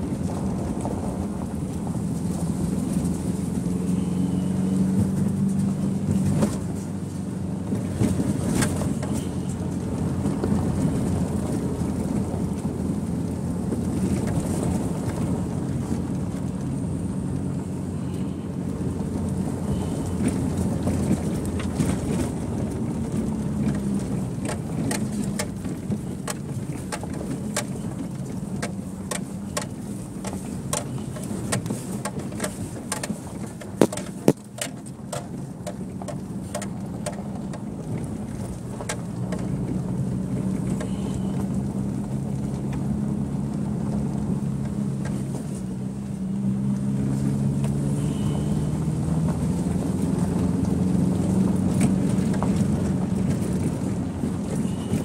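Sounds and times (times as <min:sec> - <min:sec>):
car knocks and rattles over bumps: 0:00.0 - 0:04.1, 0:04.7 - 0:55.0
car engine running: 0:00.0 - 0:55.0
road and tyre noise: 0:00.0 - 0:55.0.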